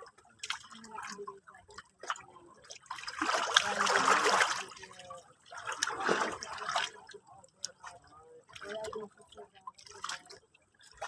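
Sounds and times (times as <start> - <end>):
sea water splashing: 0.0 - 11.0
water dripping and trickling: 0.0 - 11.0.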